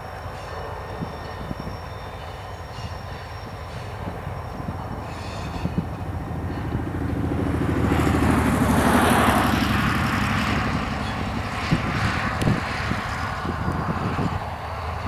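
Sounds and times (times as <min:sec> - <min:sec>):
diesel locomotive passing: 0:00.0 - 0:15.0.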